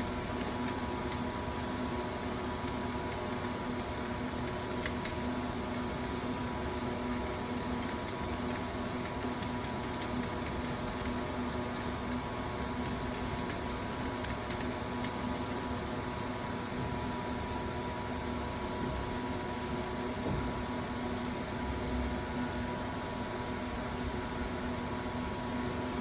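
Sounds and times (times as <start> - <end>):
mechanical hum with hiss: 0.0 - 26.0.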